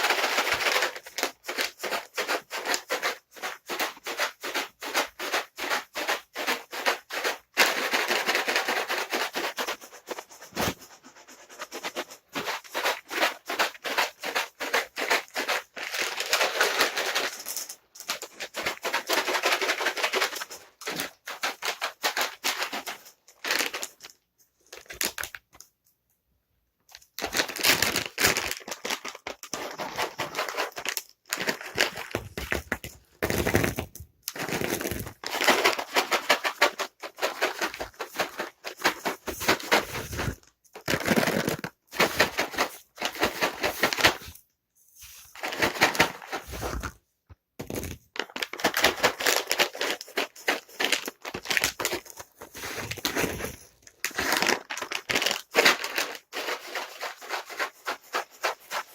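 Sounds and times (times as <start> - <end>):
cat treats rattling in container: 0.0 - 25.4, 26.9 - 44.4, 45.0 - 47.0, 47.6 - 58.9.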